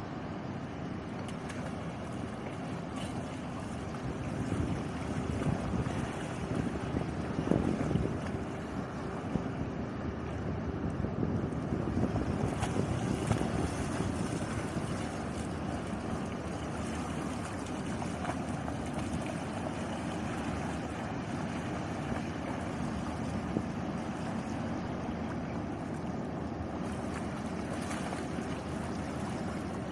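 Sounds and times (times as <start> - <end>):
small waves lapping on shore: 0.0 - 29.9
wind buffeting microphone: 3.5 - 29.9.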